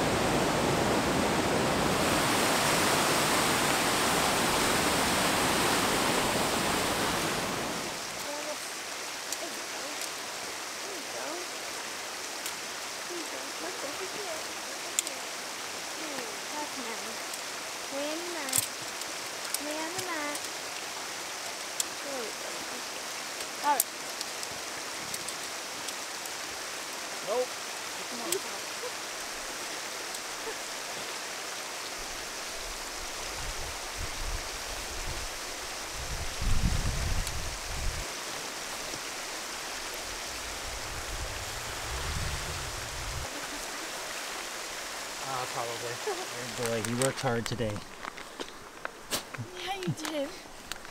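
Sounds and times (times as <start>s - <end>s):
stream rushing: 0.0s - 50.9s.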